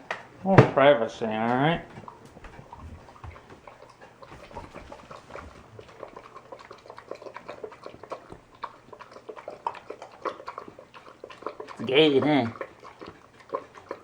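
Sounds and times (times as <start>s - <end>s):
dog chewing and licking: 0.0s - 14.0s.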